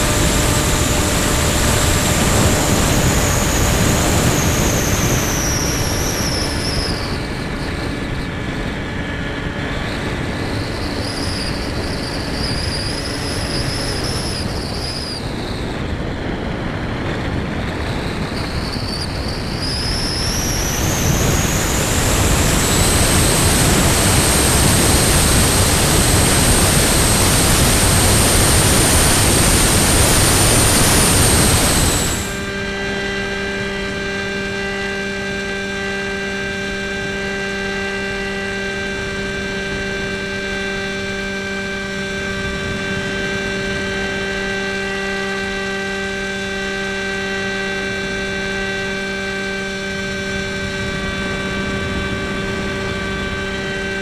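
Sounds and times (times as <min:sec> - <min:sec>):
wind rush: 0:00.0 - 0:35.2, 0:36.6 - 0:54.0
electric motor and propeller whine: 0:00.0 - 0:54.0.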